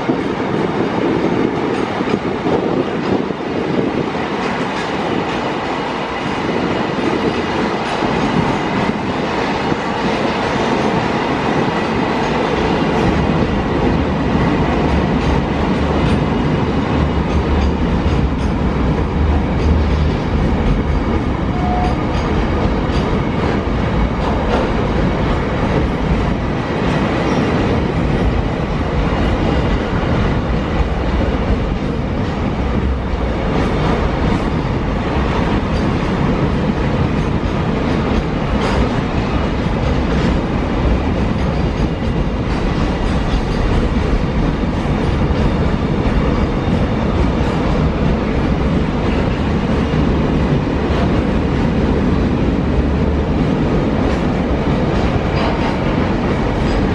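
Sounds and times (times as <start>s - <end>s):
freight train wheels rumbling: 0.0s - 56.9s.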